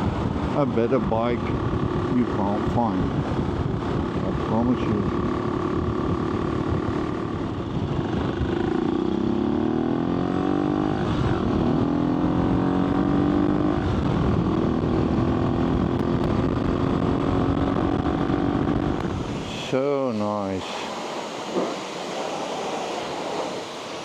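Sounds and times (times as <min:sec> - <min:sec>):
motorcycle engine revving: 0:00.0 - 0:24.0
wind rumbling on microphone: 0:00.0 - 0:24.0.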